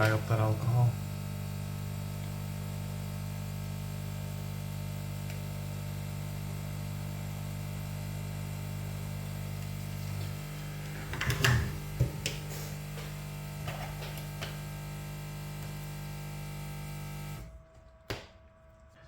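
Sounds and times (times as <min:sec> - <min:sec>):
blower electric hum: 0:00.0 - 0:19.0.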